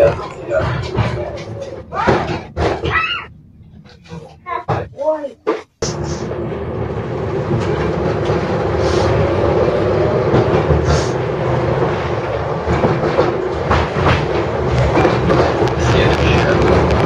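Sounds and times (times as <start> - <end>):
clacks over rail joints: 0.0 - 17.0
tram wheels rumbling on rails: 0.0 - 17.0.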